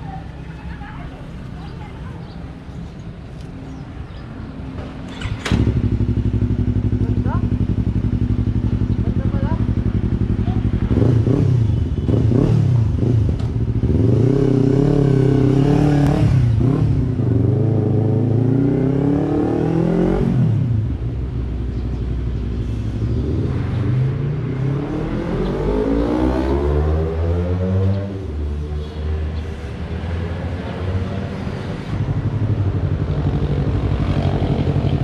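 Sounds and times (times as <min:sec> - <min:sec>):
motorcycle engine revving: 0:05.1 - 0:22.0, 0:22.8 - 0:35.0.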